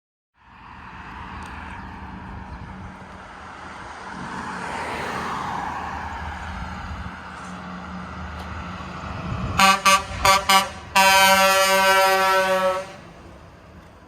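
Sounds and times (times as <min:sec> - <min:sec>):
vehicle passing close: 0:00.4 - 0:14.0.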